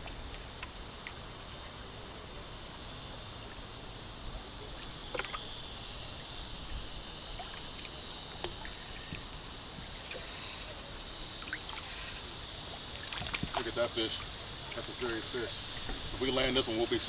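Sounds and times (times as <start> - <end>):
outdoor hiss: 0.0 - 17.0
small waves lapping: 0.0 - 17.0.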